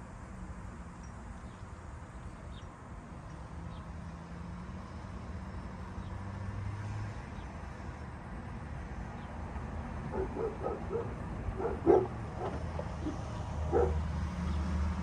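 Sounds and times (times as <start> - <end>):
vehicle engine hum: 0.1 - 15.0.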